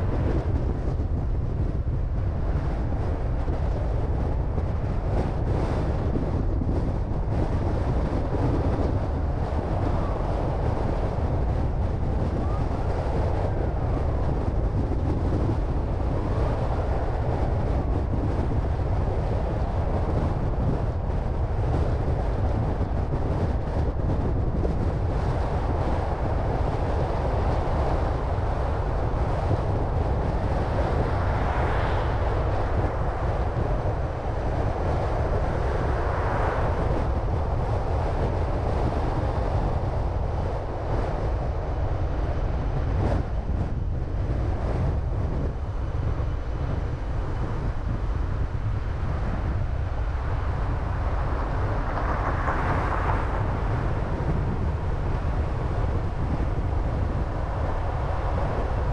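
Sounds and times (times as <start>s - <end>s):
car road rumble: 0.0s - 58.9s
wind noise: 0.0s - 58.9s.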